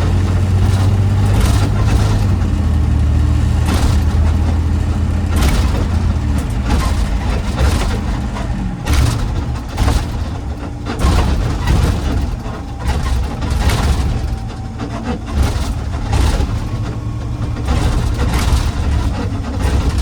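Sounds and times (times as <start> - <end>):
garbage truck diesel engine: 0.0 - 20.0.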